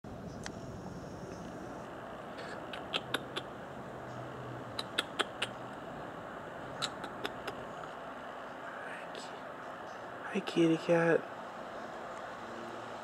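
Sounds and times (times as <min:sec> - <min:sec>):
low background hum: 0:00.1 - 0:13.0.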